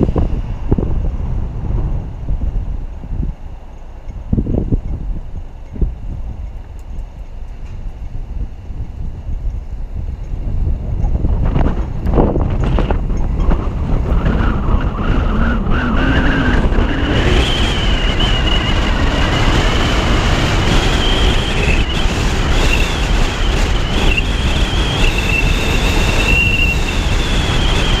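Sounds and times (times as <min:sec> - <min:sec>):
car road noise: 0:00.0 - 0:28.0
wind rush: 0:00.0 - 0:28.0.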